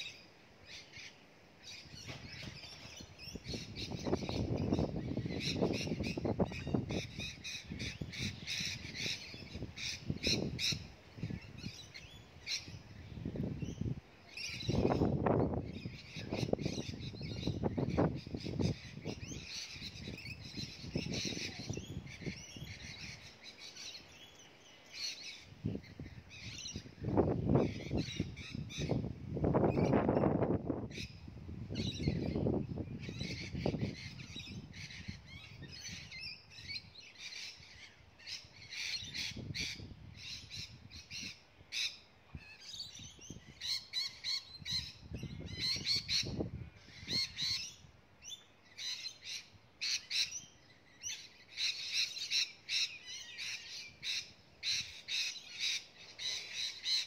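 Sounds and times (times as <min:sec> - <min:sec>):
birds calling: 0:00.0 - 0:57.0.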